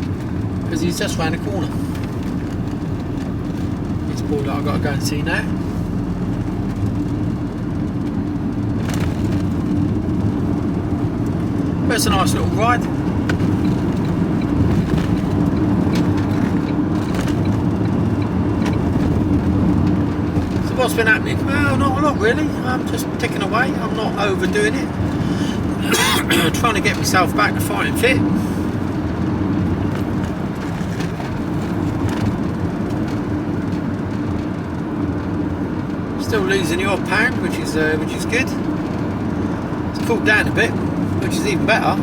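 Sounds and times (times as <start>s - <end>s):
road noise: 0.0s - 42.0s
vehicle engine drone: 0.0s - 42.0s.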